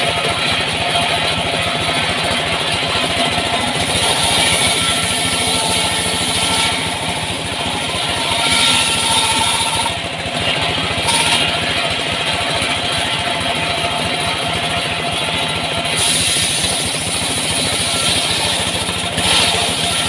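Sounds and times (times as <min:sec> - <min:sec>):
sawmill engine running: 0:00.0 - 0:20.0.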